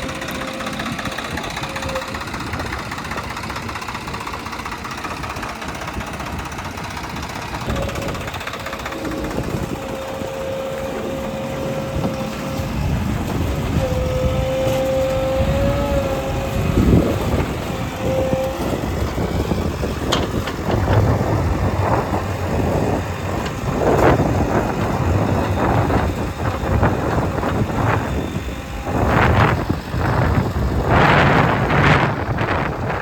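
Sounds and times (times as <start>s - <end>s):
heavy diesel machinery rumbling: 0.0s - 33.0s.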